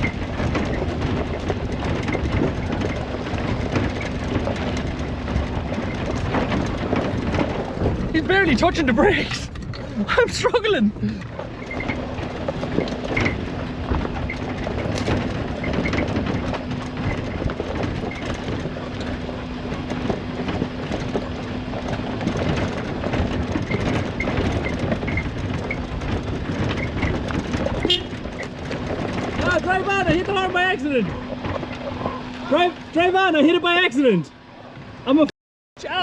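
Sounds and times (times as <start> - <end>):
car body rattling and knocking: 0.0 - 35.0
car engine hum: 0.0 - 36.0.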